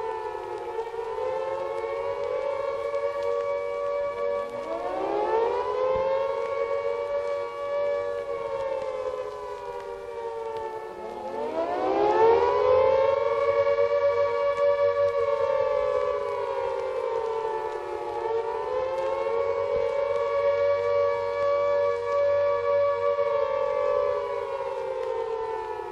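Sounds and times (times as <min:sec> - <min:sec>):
air-raid siren wailing: 0:00.0 - 0:25.9.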